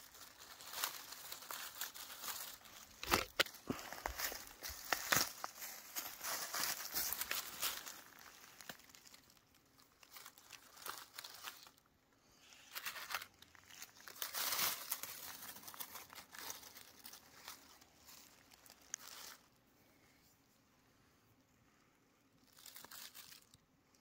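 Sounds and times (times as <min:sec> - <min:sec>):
dry leaves rustling and crackling: 0:00.0 - 0:19.6, 0:22.4 - 0:23.6.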